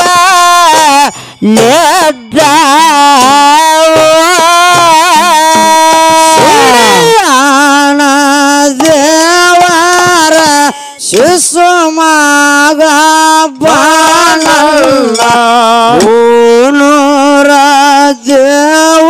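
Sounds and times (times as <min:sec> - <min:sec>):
person singing folk song: 0:00.0 - 0:19.0.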